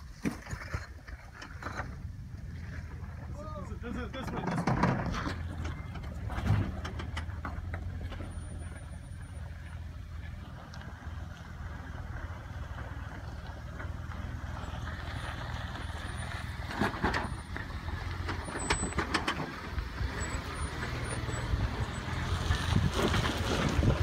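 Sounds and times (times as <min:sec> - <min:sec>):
engine running low: 0:00.0 - 0:24.0.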